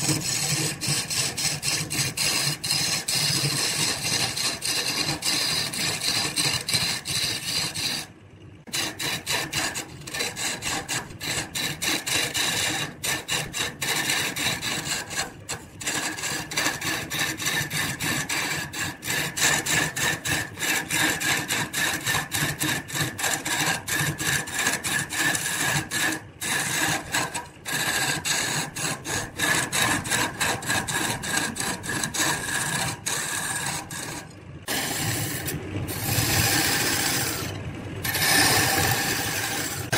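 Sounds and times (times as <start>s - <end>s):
lathe tool cutting wood: 0.0s - 8.1s, 8.7s - 39.9s.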